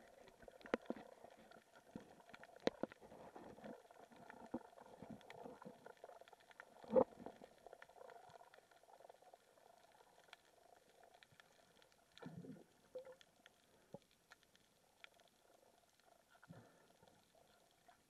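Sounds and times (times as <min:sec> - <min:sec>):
faint underwater clicks and crackles: 0:00.0 - 0:18.0.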